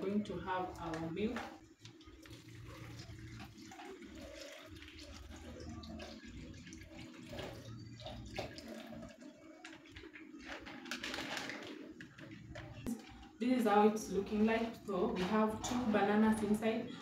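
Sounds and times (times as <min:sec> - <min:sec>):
milk pouring: 0:00.2 - 0:15.8.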